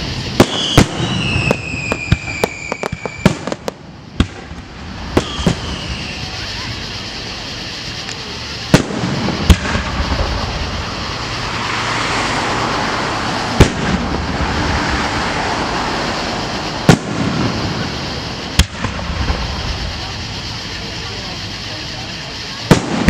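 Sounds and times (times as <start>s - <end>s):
fireworks booming: 0.0s - 23.0s
fireworks crackling: 0.0s - 23.0s.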